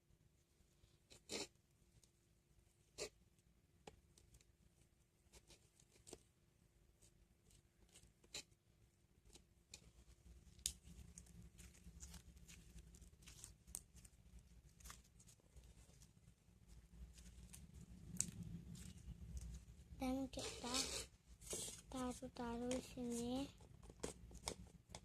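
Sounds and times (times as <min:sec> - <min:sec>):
low steady hum: 0:00.0 - 0:25.0
small objects being handled: 0:03.8 - 0:08.6, 0:09.2 - 0:25.0.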